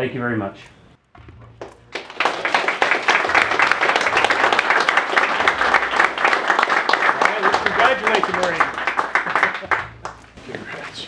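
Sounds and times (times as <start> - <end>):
small crowd applauding: 1.5 - 10.8.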